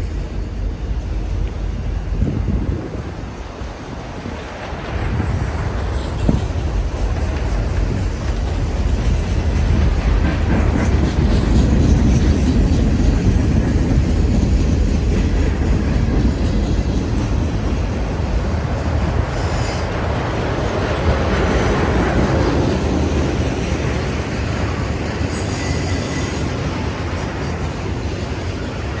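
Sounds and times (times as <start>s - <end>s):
freight train cars rolling: 0.0s - 29.0s.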